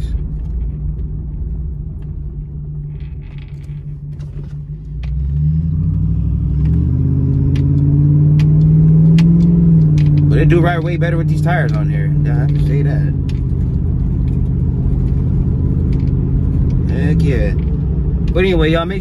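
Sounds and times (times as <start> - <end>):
truck exhaust droning: 0.0 - 19.0.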